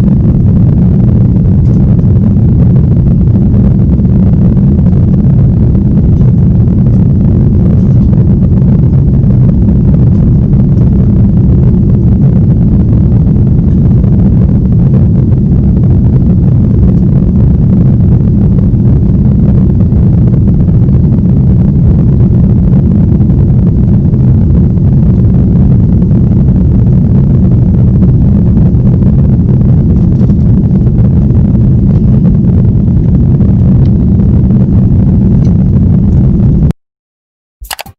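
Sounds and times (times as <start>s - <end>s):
jet cabin engine rumble: 0.0s - 36.7s.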